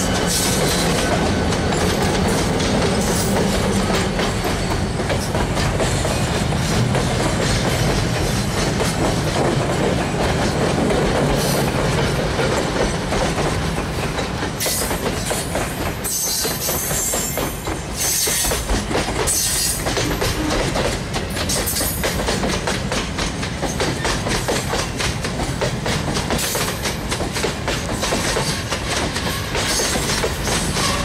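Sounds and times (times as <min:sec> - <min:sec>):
train wheels clattering on rail: 0:00.0 - 0:31.0.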